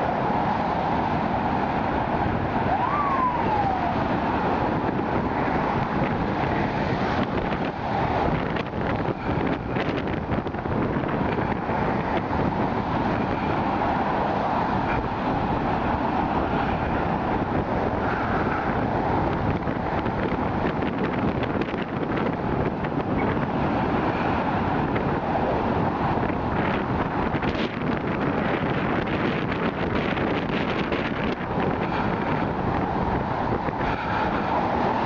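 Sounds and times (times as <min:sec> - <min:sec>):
car traffic noise: 0:00.0 - 0:35.0
wind on microphone: 0:00.0 - 0:35.0.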